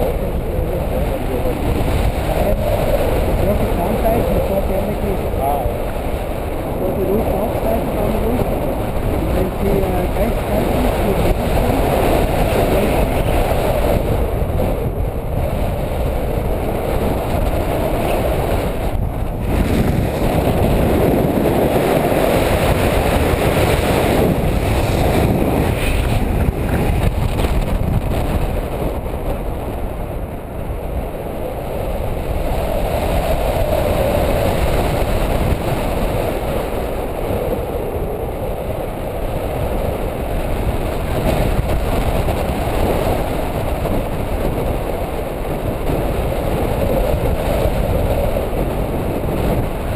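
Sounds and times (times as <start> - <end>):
airflow rushing over microphone: 0.0 - 49.9.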